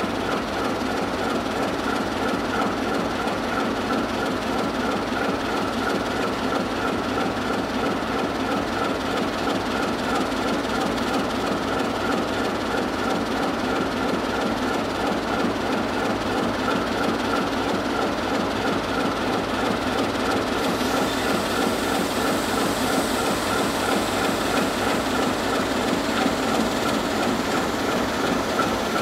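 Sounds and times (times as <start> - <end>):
diesel locomotive engines rumbling: 0.0 - 29.0.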